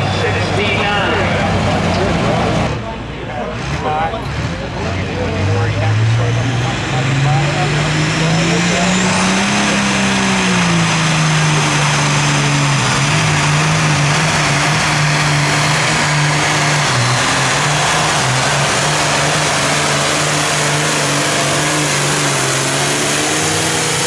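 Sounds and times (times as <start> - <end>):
tractor diesel engine roaring: 0.0 - 24.0.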